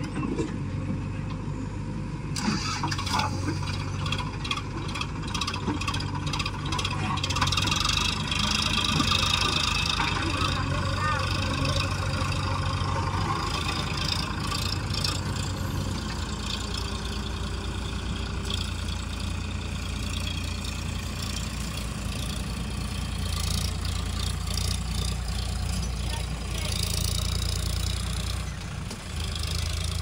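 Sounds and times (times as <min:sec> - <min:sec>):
backhoe loader engine idling: 0:00.0 - 0:30.0
tractor engine pulling away: 0:02.3 - 0:30.0.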